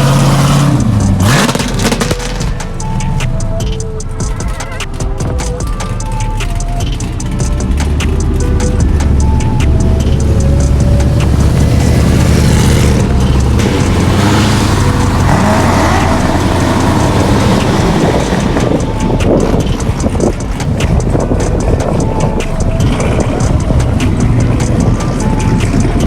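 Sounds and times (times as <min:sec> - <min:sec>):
loud car exhaust: 0:00.0 - 0:05.1, 0:05.7 - 0:26.0
faint music beat: 0:00.0 - 0:26.0.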